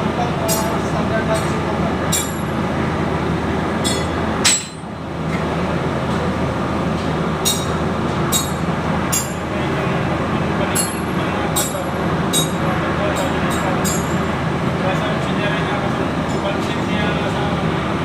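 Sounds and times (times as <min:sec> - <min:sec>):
workshop background noise: 0:00.0 - 0:18.0.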